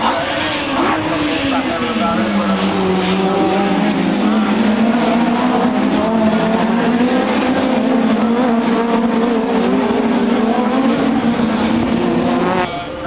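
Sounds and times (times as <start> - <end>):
racing cars passing at high revs: 0.0 - 13.0.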